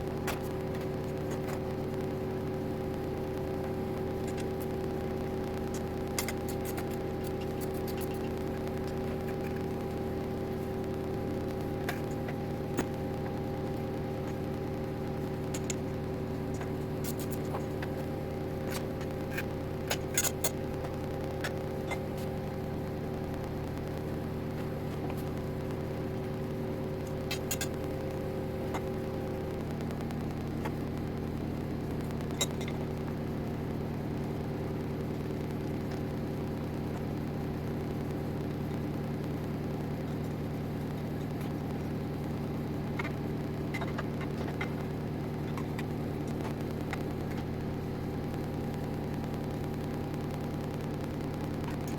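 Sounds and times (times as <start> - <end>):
small clicks and ticks: 0.0 - 51.9.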